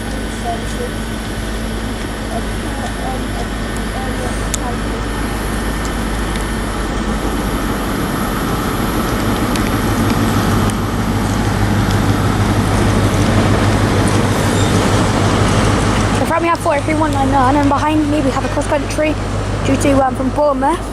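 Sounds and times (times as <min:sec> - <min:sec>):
train diesel engine droning: 0:00.0 - 0:20.9.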